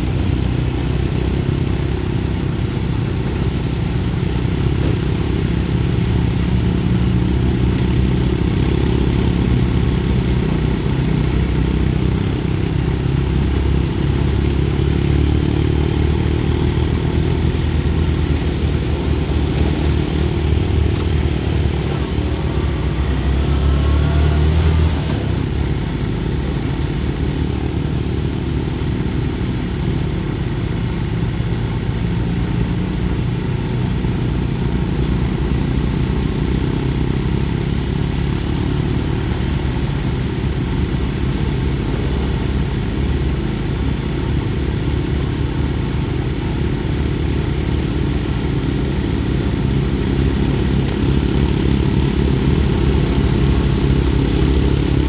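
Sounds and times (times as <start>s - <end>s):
motorcycle engine running: 0.0s - 55.0s
rushing road noise: 0.0s - 55.0s.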